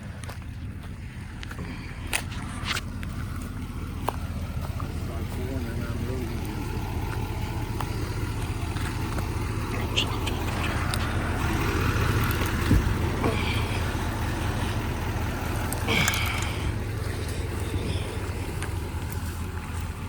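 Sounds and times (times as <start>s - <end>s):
pickup truck engine rumbling: 0.0s - 20.0s.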